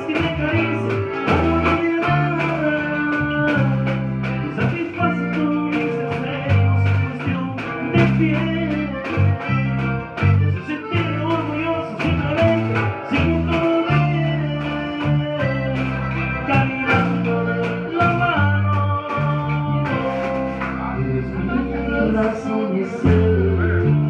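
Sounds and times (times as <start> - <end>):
live dance band with accordion: 0.0 - 24.0.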